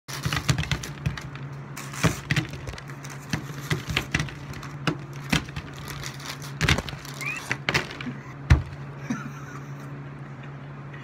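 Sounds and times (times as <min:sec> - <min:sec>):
low steady hum: 0:00.1 - 0:11.0.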